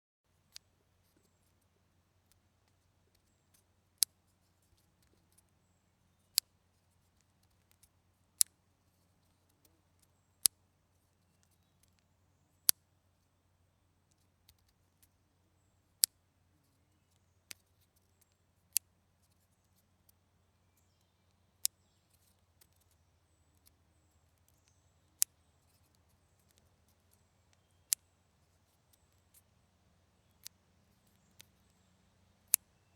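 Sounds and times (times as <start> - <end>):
faint handling clicks: 0.5 - 5.6, 6.2 - 12.8, 14.1 - 15.2, 16.0 - 29.6, 30.2 - 32.9.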